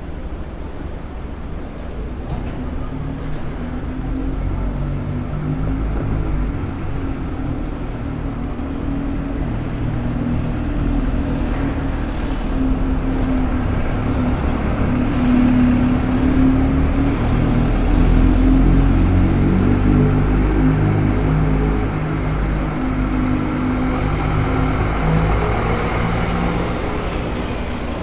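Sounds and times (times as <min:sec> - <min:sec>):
road traffic noise: 0:00.0 - 0:28.0
vehicle engine hum: 0:00.0 - 0:28.0.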